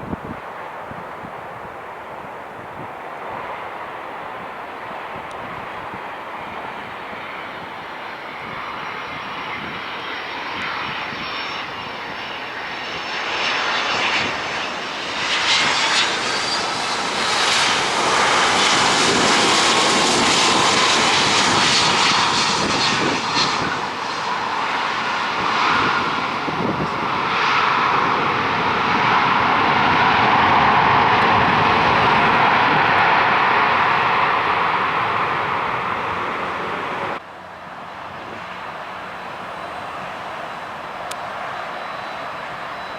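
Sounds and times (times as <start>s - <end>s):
jet engines rushing with whine: 0.0s - 42.9s.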